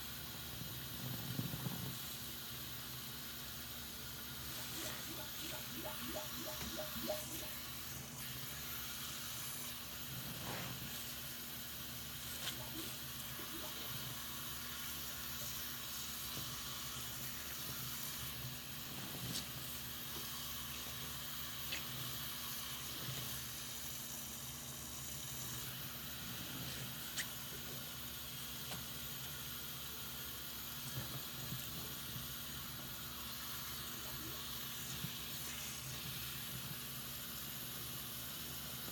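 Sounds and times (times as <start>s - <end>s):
running faucet: 0.0s - 38.9s.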